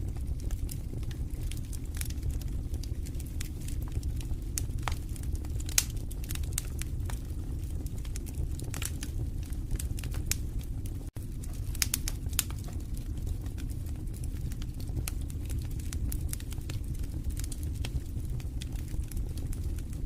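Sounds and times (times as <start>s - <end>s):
fire crackling and popping: 0.0s - 20.0s
flames rumbling: 0.0s - 20.0s.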